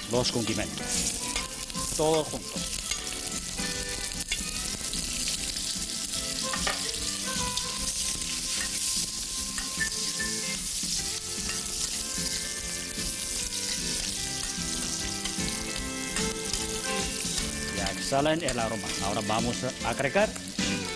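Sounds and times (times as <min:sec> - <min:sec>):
aromatics sizzling in hot oil: 0:00.0 - 0:20.9.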